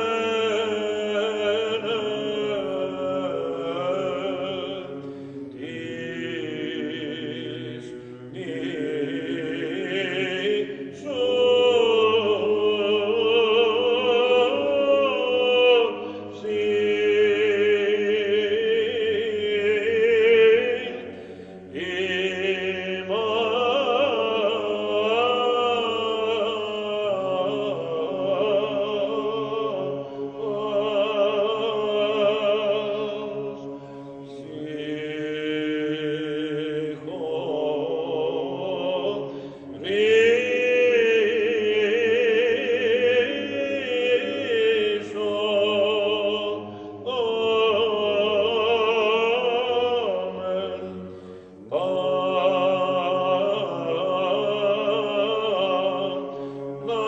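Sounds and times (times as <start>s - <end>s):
male choir chanting a cappella: 0.0s - 57.0s.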